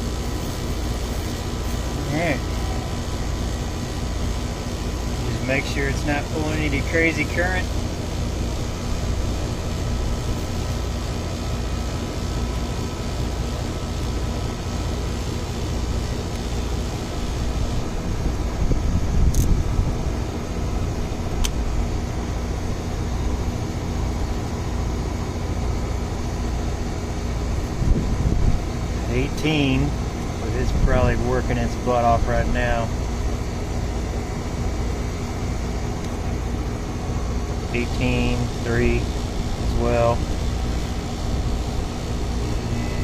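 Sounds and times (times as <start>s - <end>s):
air conditioner unit running: 0.0s - 43.0s.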